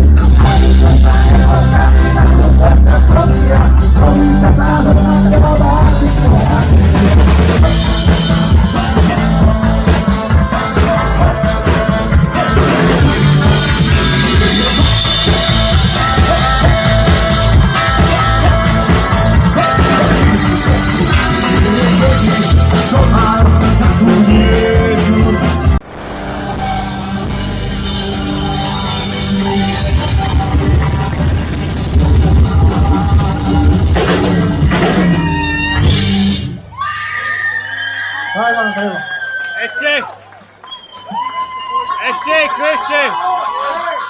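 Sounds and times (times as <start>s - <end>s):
person singing: 0.0s - 36.4s
punk rock band playing: 0.0s - 36.8s.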